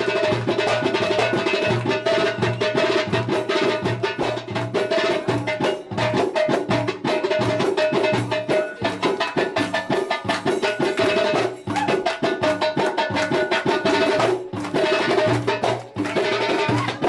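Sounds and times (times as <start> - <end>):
rapid hand-drum rhythms: 0.0 - 17.0.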